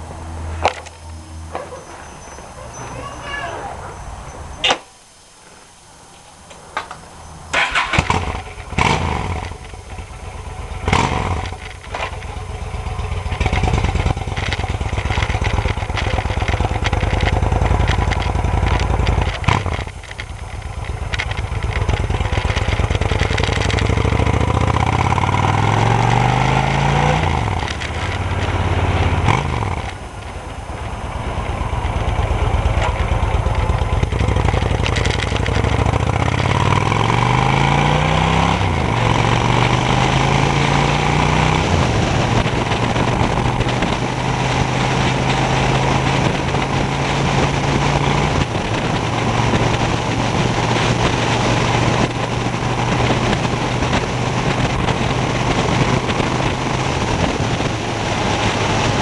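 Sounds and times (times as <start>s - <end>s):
motorcycle engine: 6.8s - 59.0s.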